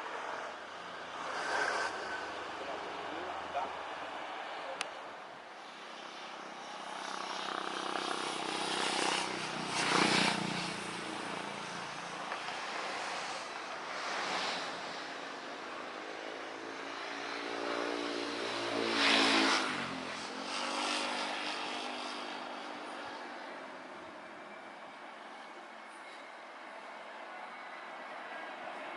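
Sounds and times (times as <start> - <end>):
road traffic passing close: 0.0 - 28.9.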